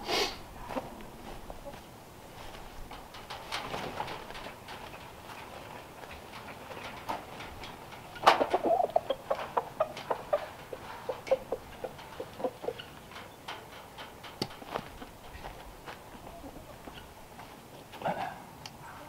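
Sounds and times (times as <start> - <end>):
poultry clucking: 0.1 - 1.9, 4.2 - 18.4.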